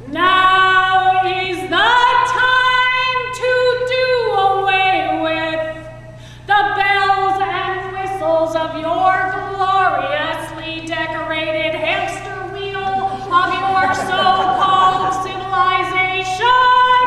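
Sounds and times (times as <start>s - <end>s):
woman singing: 0.0s - 5.9s, 6.5s - 17.0s
low electrical hum: 0.0s - 17.0s.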